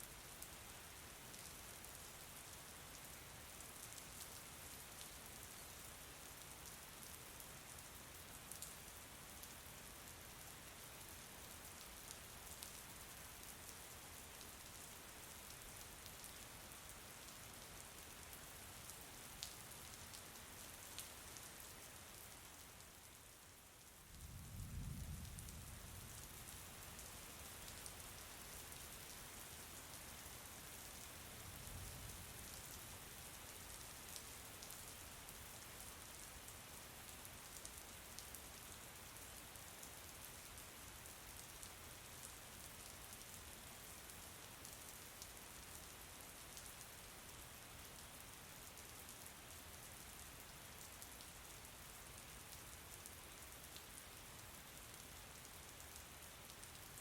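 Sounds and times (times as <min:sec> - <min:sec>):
faint steady rain: 0:00.0 - 0:57.0.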